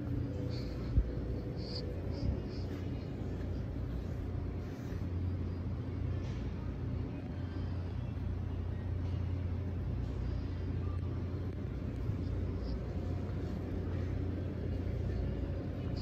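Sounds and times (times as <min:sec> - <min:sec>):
store background rumble: 0:00.0 - 0:16.0.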